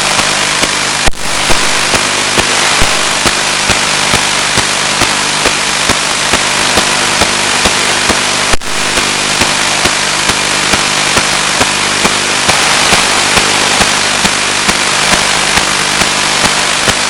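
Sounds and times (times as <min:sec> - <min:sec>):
radio hiss and hum: 0:00.0 - 0:17.0.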